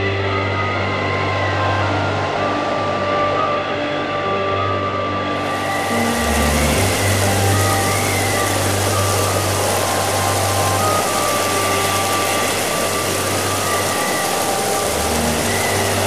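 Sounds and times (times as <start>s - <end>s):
heavy rain: 0.0s - 4.3s, 5.3s - 16.0s
wind: 0.0s - 16.0s.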